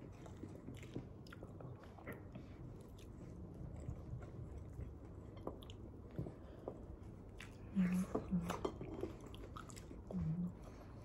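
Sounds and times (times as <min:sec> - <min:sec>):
person chewing food: 0:00.0 - 0:07.7, 0:09.0 - 0:11.0.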